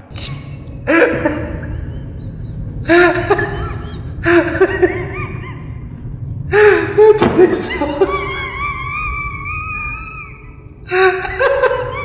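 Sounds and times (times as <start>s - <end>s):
steady low hum: 0.0s - 12.0s
person laughing: 0.1s - 12.0s.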